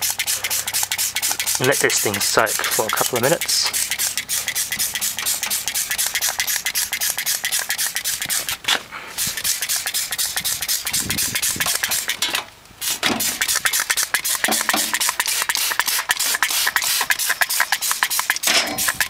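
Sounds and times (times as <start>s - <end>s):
spray bottle squirting: 0.0s - 19.0s.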